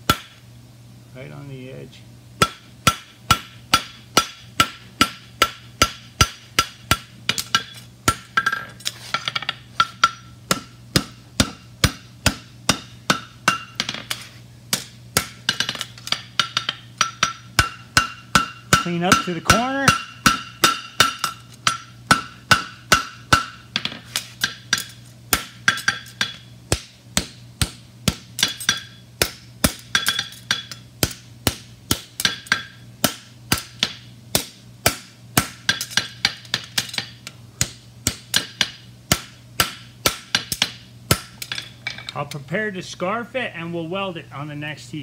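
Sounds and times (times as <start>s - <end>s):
hammer striking hot steel on anvil: 0.0s - 0.4s, 2.4s - 42.3s
steady low hum: 0.0s - 45.0s.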